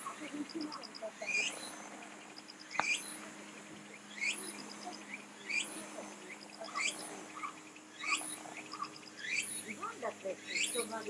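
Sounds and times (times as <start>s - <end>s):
bird rising call: 0.0s - 11.0s
faint low hum: 0.0s - 11.0s.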